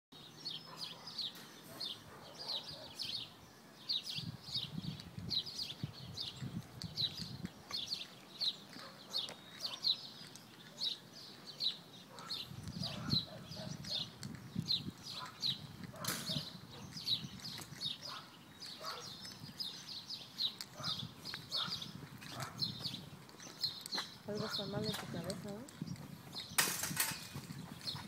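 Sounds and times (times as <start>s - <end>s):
small bird chirping: 3.9s - 28.0s.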